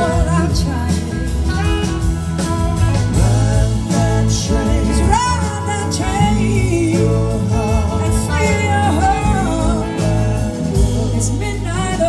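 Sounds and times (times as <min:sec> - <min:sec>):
electric slide guitar melody: 0:00.0 - 0:12.0
live band playing soul-blues: 0:00.0 - 0:12.0.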